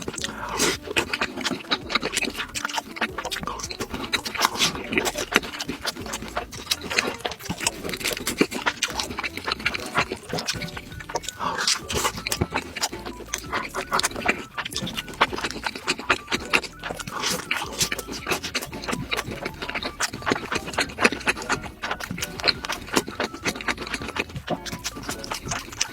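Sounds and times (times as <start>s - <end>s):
chewing with wet smacks: 0.0s - 25.9s
mouth clicks: 0.0s - 25.9s.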